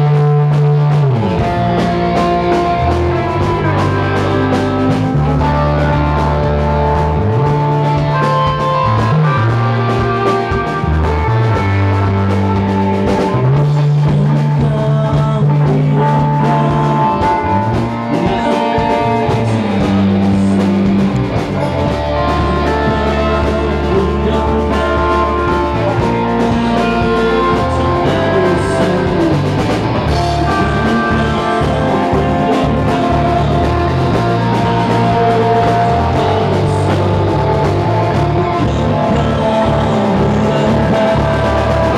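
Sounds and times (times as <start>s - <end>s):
bass guitar: 0.0s - 41.9s
drum kit: 0.0s - 41.9s
electric guitars: 0.0s - 41.9s.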